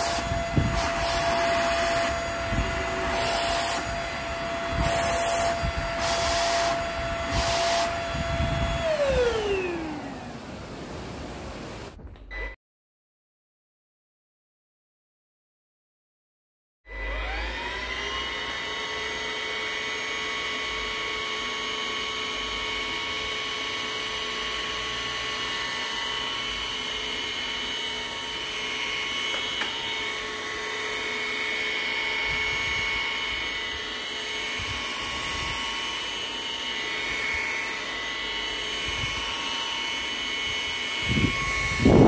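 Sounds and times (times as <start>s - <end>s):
stick vacuum motor whining: 0.0s - 10.8s, 16.9s - 42.0s.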